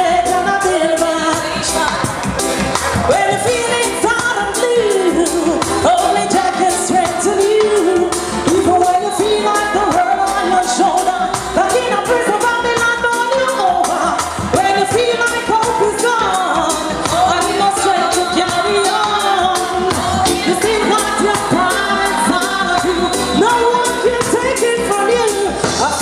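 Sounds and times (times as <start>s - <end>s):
reggae backing track: 0.0s - 26.0s
woman singing: 0.0s - 26.0s.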